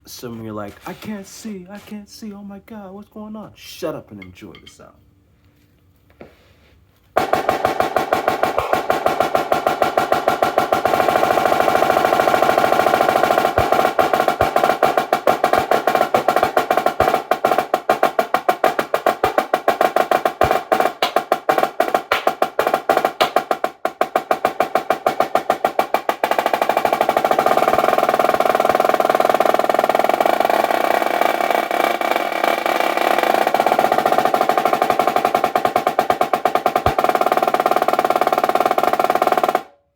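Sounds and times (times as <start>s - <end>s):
snare drum playing: 7.2s - 39.7s.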